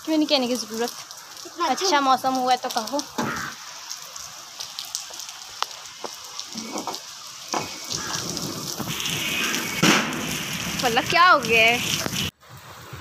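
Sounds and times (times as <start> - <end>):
raindrops tapping: 0.0 - 12.3
steady rain hiss: 0.0 - 13.0.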